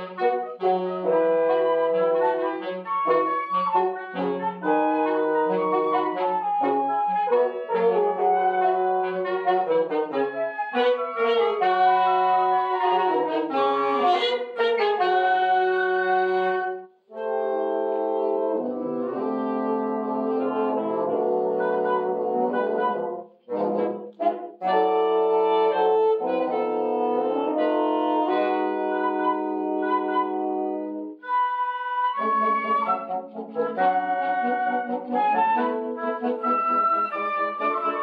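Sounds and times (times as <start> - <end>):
wind quintet playing chords: 0.0 - 38.0.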